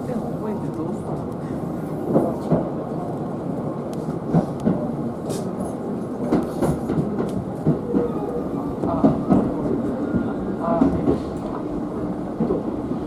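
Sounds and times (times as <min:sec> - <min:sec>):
steady train rumble: 0:00.0 - 0:13.0.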